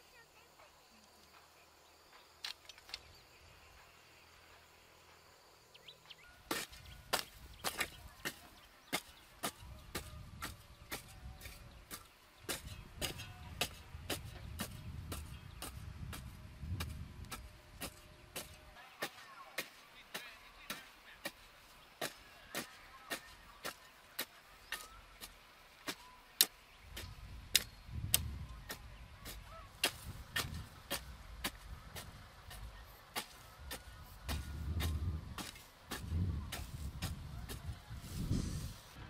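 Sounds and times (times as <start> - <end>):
hoe chopping stony soil: 6.4 - 38.8.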